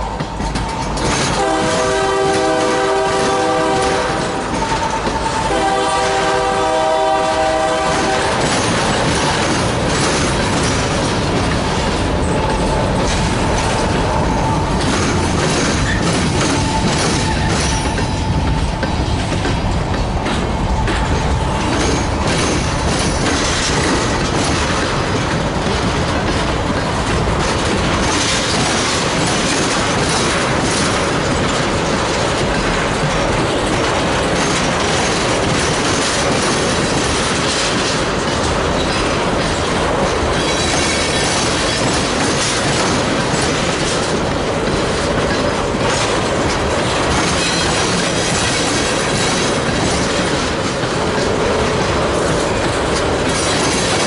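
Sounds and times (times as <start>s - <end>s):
freight train rumbling past: 0.0s - 54.0s
wheels clicking over rail joints: 0.0s - 54.0s.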